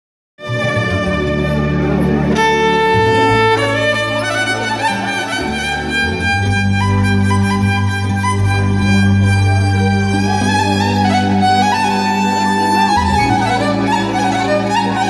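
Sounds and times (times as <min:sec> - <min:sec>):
amplified violin melody: 0:00.4 - 0:15.0
low accompaniment: 0:00.4 - 0:15.0.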